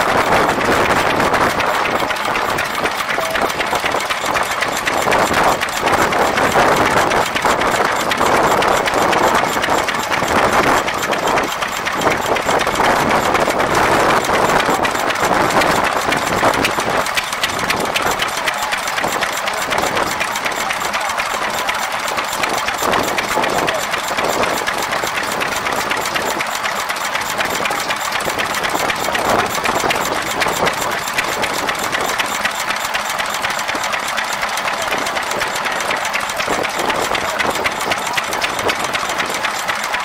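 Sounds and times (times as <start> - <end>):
stationary engines running: 0.0 - 40.0.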